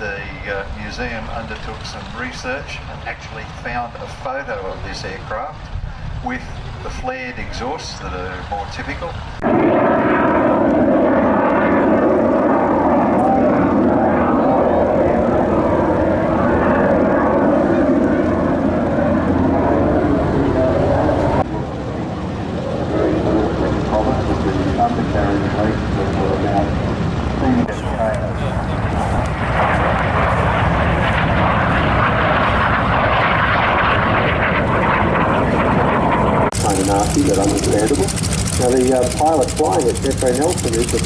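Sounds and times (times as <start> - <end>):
propeller aircraft engine: 0.0 - 41.0.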